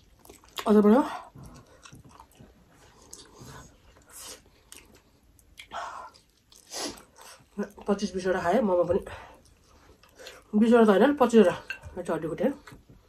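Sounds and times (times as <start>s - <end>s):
people chewing: 0.0s - 10.6s.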